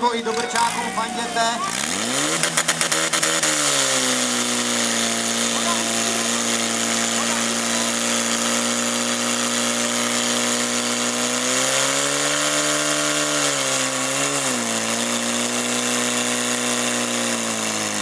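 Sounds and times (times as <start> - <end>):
fire pump engine running hard: 0.0 - 18.0.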